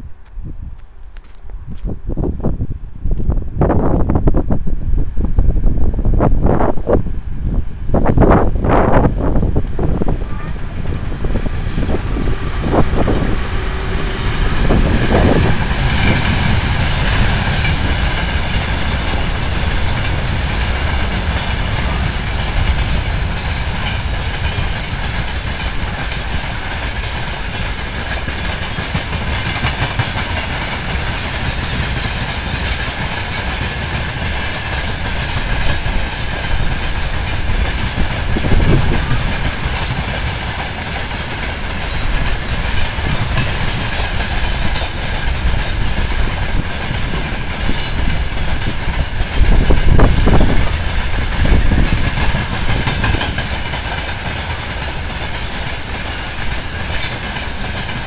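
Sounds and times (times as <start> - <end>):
freight train rolling rumble: 0.0 - 58.0
wheels clacking over rail joints: 10.8 - 58.0.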